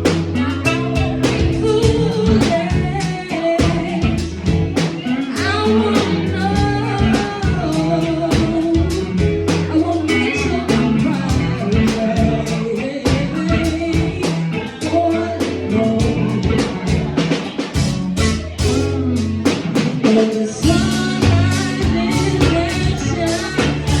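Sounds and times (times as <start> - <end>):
blues rock song with singing: 0.0 - 24.0.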